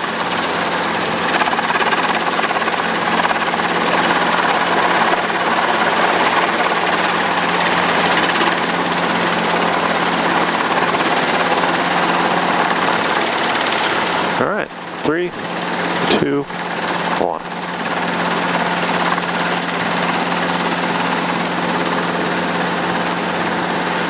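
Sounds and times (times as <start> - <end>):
helicopter hovering: 0.0 - 24.0.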